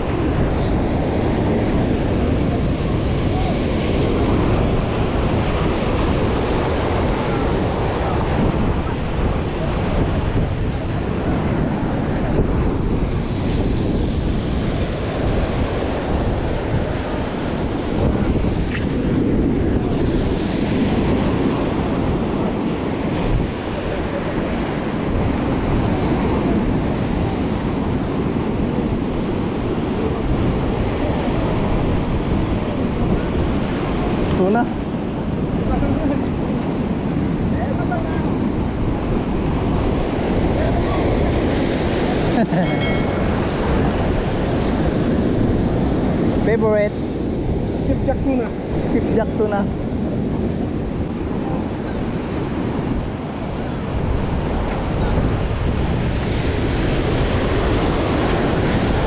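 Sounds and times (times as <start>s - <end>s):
surf breaking over rocks: 0.0s - 47.2s, 47.9s - 59.0s
wind buffeting microphone: 0.0s - 59.0s.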